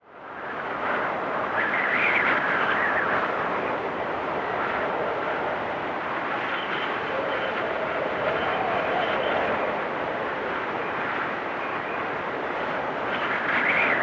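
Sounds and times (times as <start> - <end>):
blizzard wind blowing: 0.0 - 14.0
whistling wind gust: 0.0 - 14.0.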